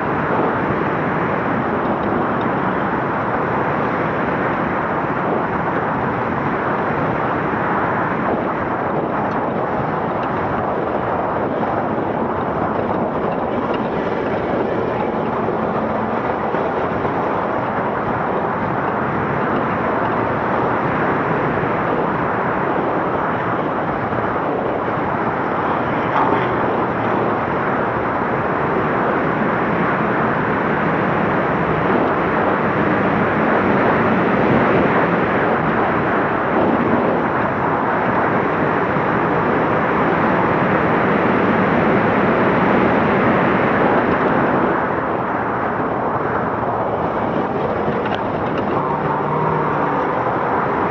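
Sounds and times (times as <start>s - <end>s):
truck driving at speed: 0.0s - 50.9s.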